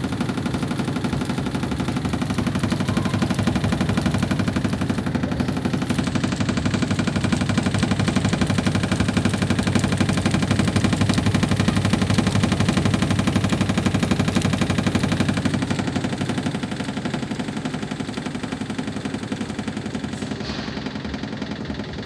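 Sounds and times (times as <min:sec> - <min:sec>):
rapid pulsing rattle: 0:00.0 - 0:22.0
washing machine drum spinning: 0:00.0 - 0:22.0.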